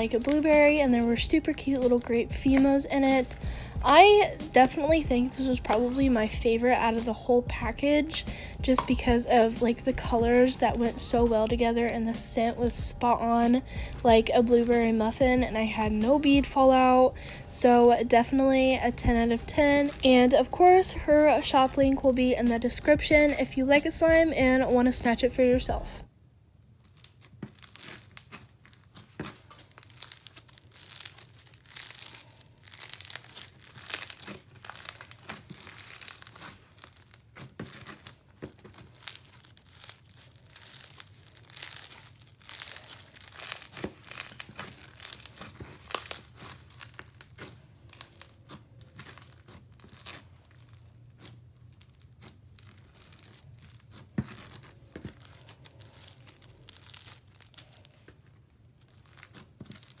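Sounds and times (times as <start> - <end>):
slime crackling and popping: 0.0 - 60.0.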